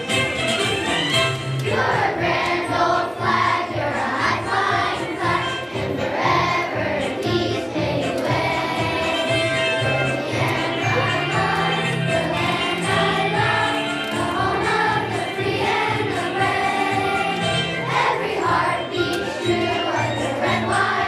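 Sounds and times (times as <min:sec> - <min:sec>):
instrumental accompaniment: 0:00.0 - 0:21.0
choir singing: 0:01.7 - 0:21.0.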